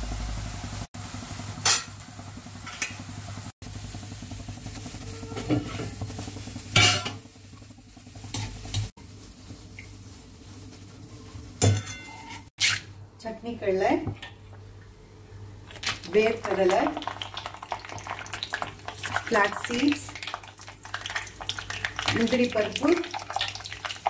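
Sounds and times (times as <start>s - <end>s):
onions sizzling in oil: 0.0s - 12.7s, 15.6s - 24.0s.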